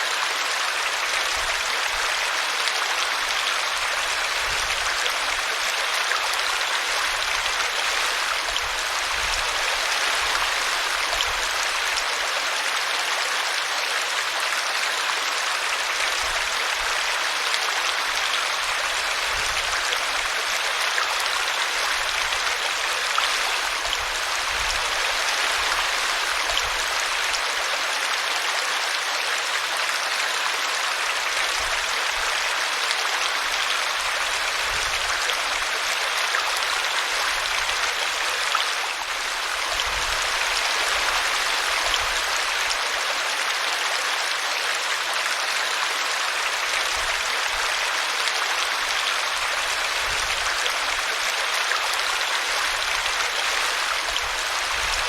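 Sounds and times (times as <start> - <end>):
brook water babbling: 0.0 - 55.0.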